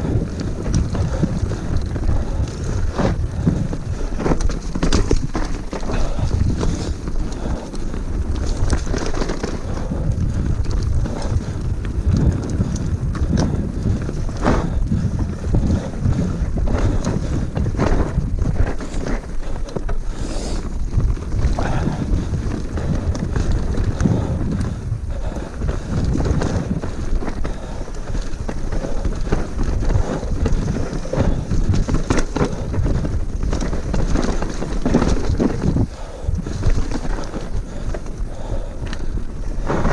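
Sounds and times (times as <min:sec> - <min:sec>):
bike knocks and rattles: 0:00.0 - 0:39.9
wind buffeting microphone: 0:00.0 - 0:39.9.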